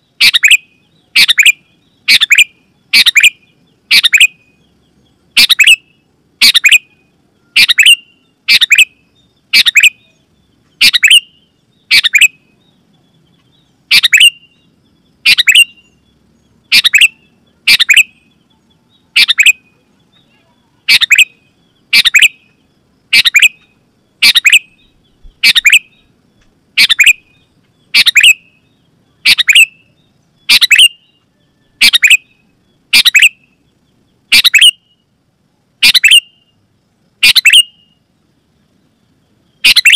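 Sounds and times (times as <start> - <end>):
bulbul calling: 0.0 - 35.0, 35.8 - 36.6, 37.2 - 38.0, 39.5 - 39.9.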